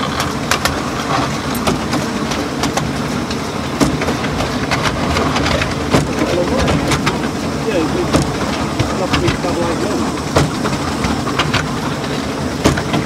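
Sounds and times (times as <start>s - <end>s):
railway carriage rumble: 0.0s - 13.0s
wheels clicking over rail joints: 0.0s - 13.0s.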